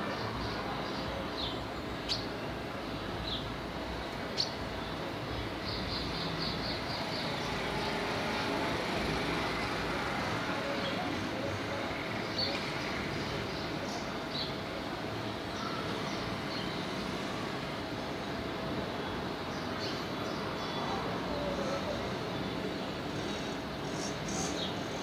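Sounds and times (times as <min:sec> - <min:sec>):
city street traffic: 0:00.0 - 0:25.0
birds chirping: 0:00.1 - 0:25.0.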